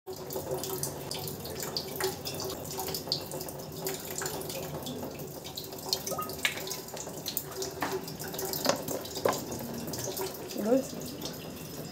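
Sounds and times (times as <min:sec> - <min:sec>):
water dripping: 0:00.1 - 0:11.9
water running: 0:00.1 - 0:11.9.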